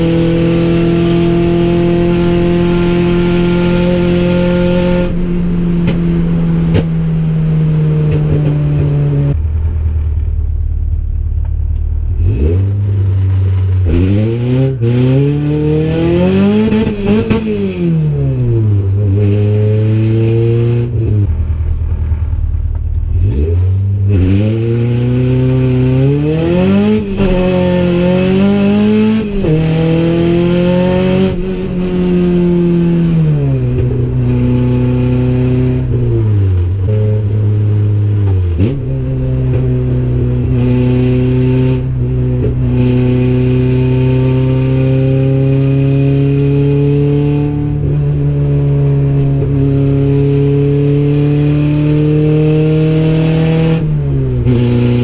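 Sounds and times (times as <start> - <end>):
car engine revving from inside cabin: 0.0 - 9.4, 12.1 - 21.3, 23.0 - 55.0.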